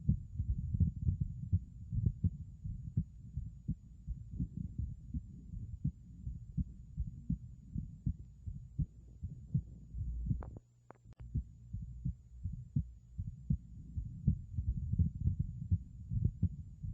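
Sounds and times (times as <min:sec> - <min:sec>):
heartbeat thumps: 0:00.0 - 0:10.6, 0:11.2 - 0:16.9.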